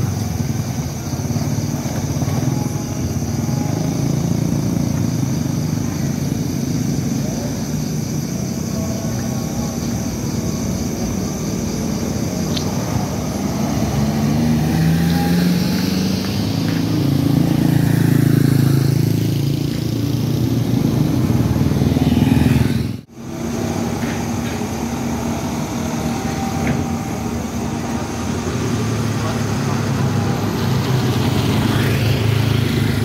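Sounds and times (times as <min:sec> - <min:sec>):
car engines passing: 0:00.0 - 0:33.0
motorcycle engine passing: 0:00.0 - 0:33.0.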